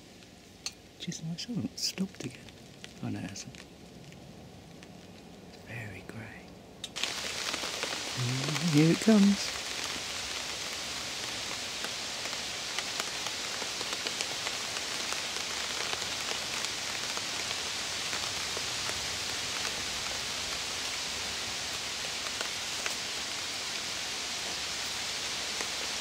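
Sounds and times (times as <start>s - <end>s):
raindrops ticking close by: 0.0s - 26.0s
steady rain in woodland: 0.0s - 26.0s.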